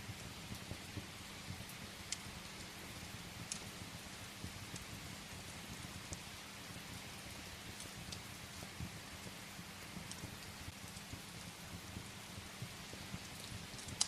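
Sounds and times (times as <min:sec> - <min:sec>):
steady rain falling: 0:00.0 - 0:14.0
wood fire crackling: 0:00.0 - 0:14.0.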